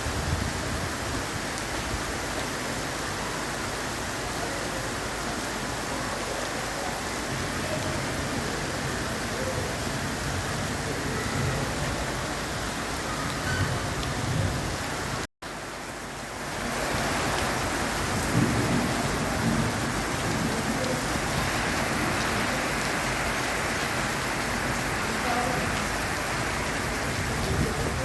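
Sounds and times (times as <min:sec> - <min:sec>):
rain hissing: 0:00.0 - 0:28.0.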